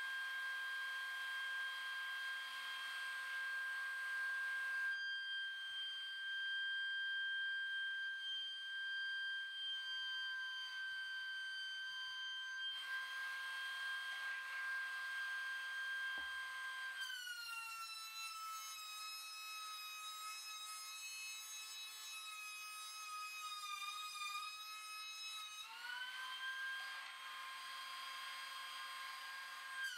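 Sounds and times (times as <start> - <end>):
thickness planer motor whine: 0.0 - 29.9.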